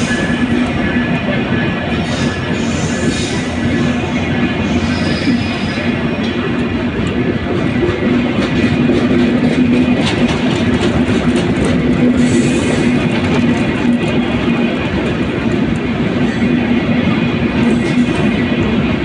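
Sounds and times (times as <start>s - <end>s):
train wheels rushing on rail: 0.0s - 19.0s.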